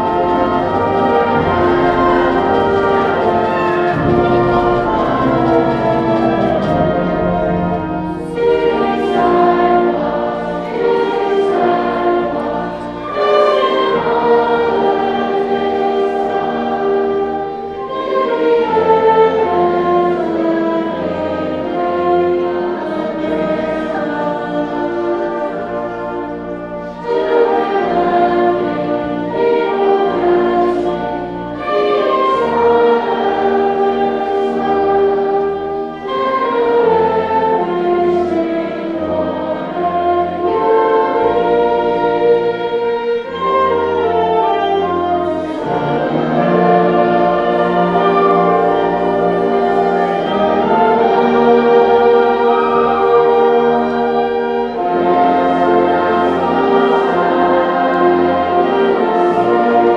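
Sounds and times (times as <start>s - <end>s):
wind band playing sustained chords: 0.0s - 59.9s.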